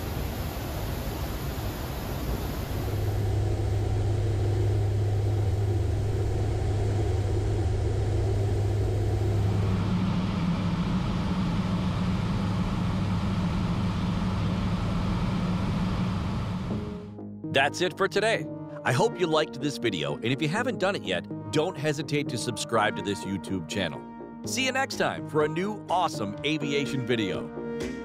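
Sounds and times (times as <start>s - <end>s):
aircraft engines droning: 0.0s - 28.0s.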